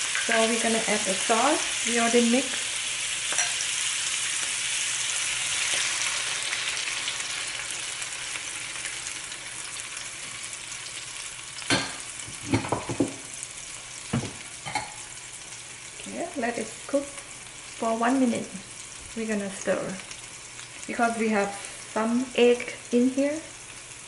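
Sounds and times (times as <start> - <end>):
sauce sizzling in a wok: 0.0 - 24.0.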